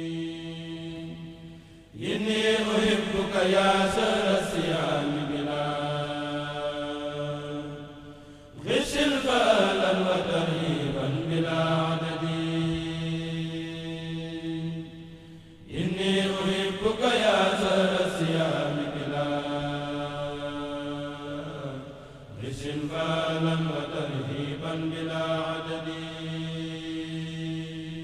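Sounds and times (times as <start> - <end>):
person chanting: 0.0 - 28.0.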